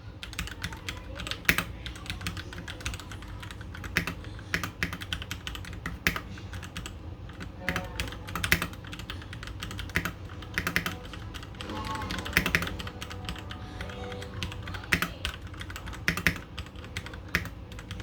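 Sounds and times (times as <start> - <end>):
mechanical keyboard typing: 0.2 - 18.0.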